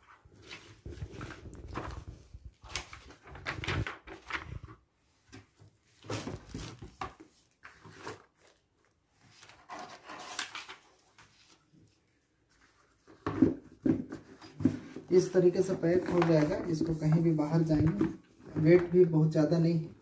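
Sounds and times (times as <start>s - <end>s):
paper and cardboard rustling: 0.0s - 19.7s.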